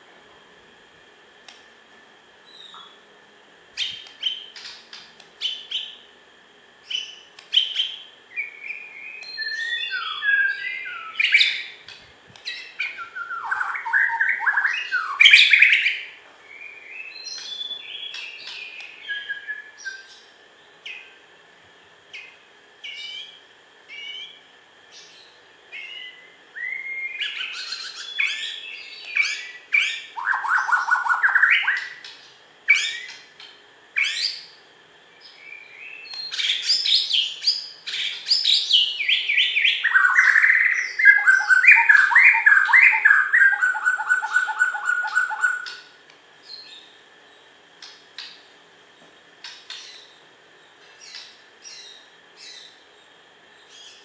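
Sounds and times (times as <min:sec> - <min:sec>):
songbird singing whistles and chirps: 0:02.4 - 0:03.1, 0:03.7 - 0:06.1, 0:06.8 - 0:21.2, 0:22.1 - 0:54.0.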